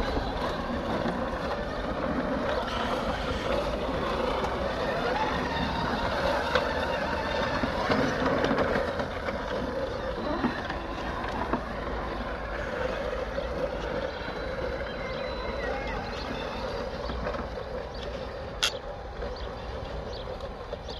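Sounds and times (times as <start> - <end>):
mower reel whirring: 0.0 - 20.9.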